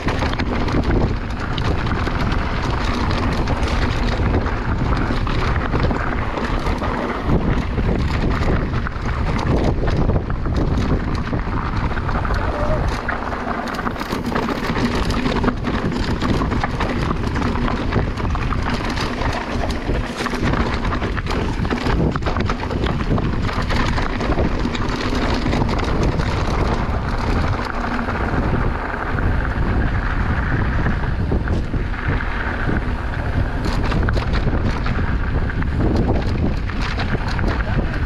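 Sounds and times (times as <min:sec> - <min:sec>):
mountain bike rattling on trail: 0:00.0 - 0:38.0
wind buffeting microphone: 0:00.0 - 0:38.0.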